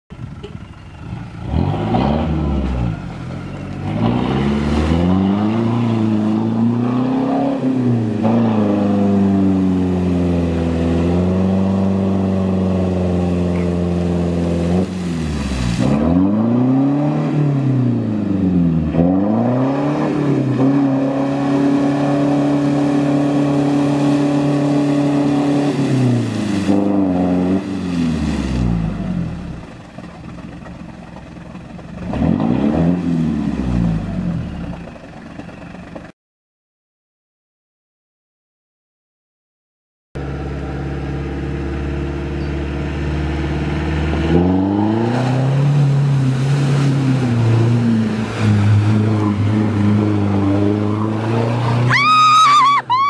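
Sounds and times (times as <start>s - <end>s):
wheels spinning in mud and water: 0.2s - 36.1s, 40.2s - 53.0s
truck engine revving: 1.0s - 35.5s, 40.2s - 52.6s.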